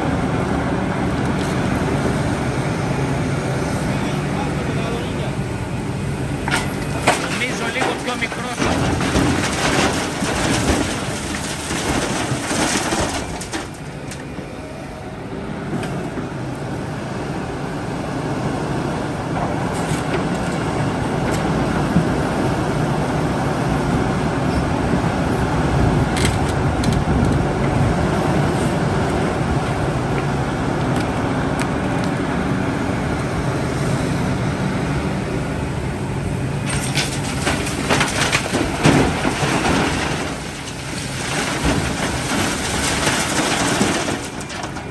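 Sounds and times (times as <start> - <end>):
diesel engine rumble: 0.0 - 44.9.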